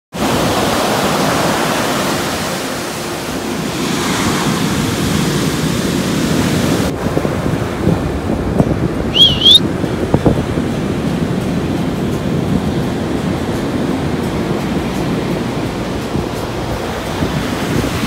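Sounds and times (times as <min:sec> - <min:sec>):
ocean surf breaking: 0:00.1 - 0:18.0
wind buffeting microphone: 0:00.2 - 0:18.0.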